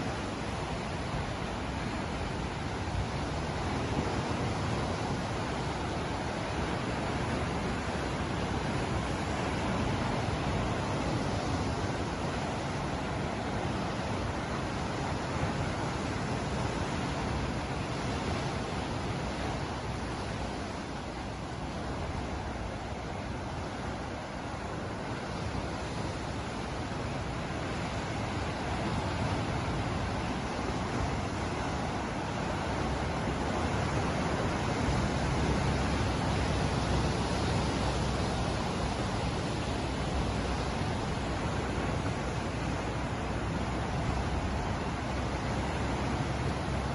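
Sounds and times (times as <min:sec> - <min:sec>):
ocean waves washing ashore: 0:00.0 - 0:46.9.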